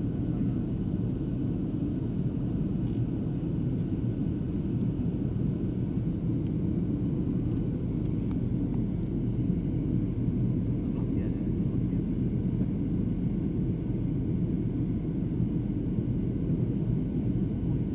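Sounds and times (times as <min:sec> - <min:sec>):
airliner cabin drone: 0:00.0 - 0:17.9.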